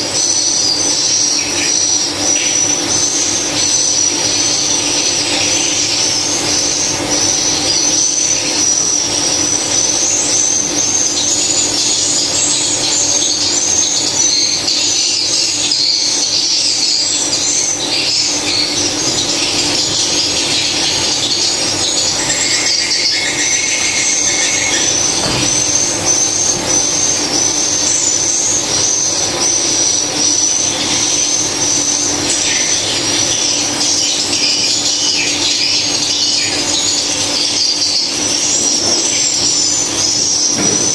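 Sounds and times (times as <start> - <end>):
swiftlets chirping and twittering: 0.0 - 40.9.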